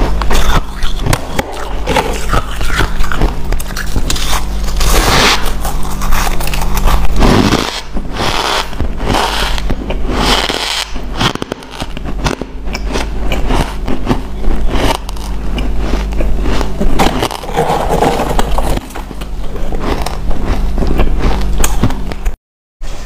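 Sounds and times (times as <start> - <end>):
low steady hum: 0.0 - 23.0
ice crunching while chewed: 0.1 - 10.6, 11.2 - 22.4.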